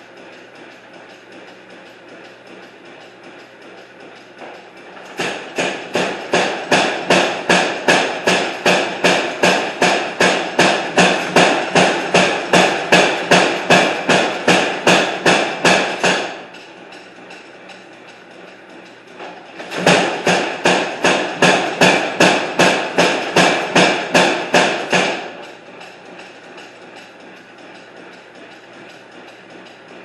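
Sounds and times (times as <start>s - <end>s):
steady hum: 0.0s - 30.0s
hammer striking hot iron: 4.2s - 17.9s, 18.8s - 29.8s.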